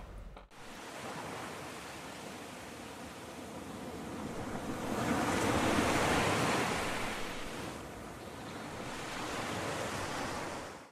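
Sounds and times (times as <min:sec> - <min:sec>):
ocean waves washing in: 0:00.5 - 0:10.9.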